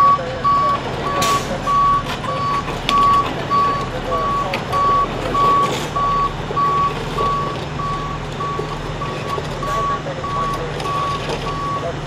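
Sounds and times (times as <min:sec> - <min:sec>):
vehicle backup alarm beeping: 0:00.0 - 0:12.0.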